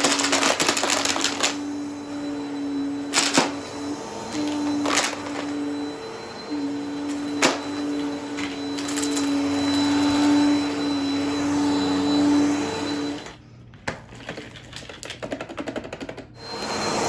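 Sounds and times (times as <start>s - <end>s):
vacuum cleaner motor humming: 0.0s - 13.4s, 15.8s - 17.0s.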